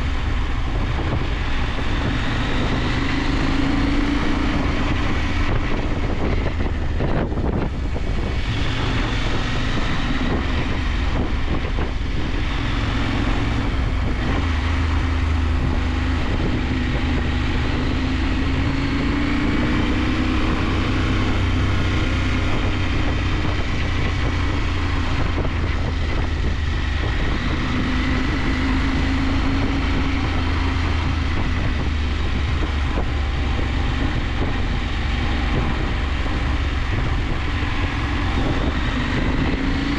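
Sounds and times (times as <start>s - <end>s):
motorcycle engine running: 0.0s - 39.9s
wind rushing past microphone: 0.0s - 39.9s.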